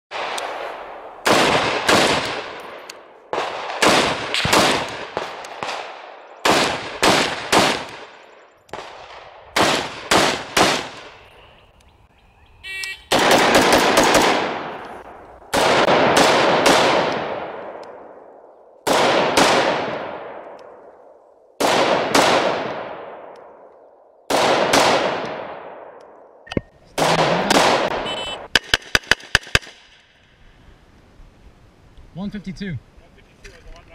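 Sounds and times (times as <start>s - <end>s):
rifle shots with echo: 0.1s - 11.2s, 13.1s - 26.4s, 27.0s - 30.0s.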